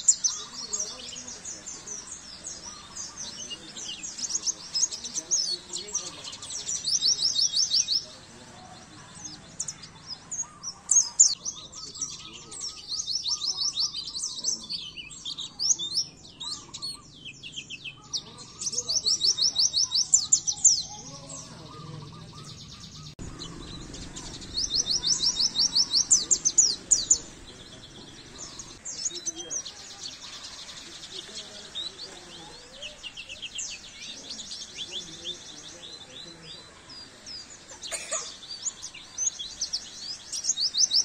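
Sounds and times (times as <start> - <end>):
bird twittering song: 0.0 - 41.0.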